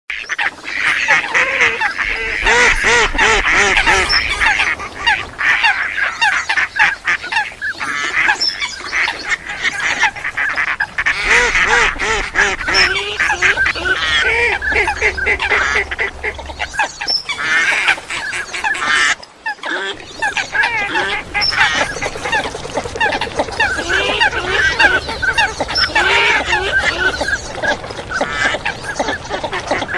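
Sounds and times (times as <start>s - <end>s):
mallards quacking: 0.1s - 29.9s
water hens calling: 0.1s - 29.9s.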